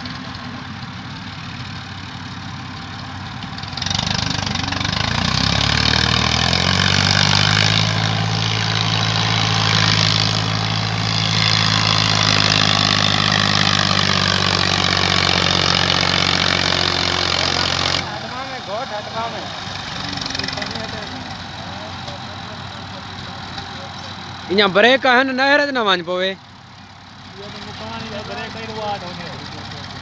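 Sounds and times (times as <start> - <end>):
tractor diesel engine: 0.0 - 30.0.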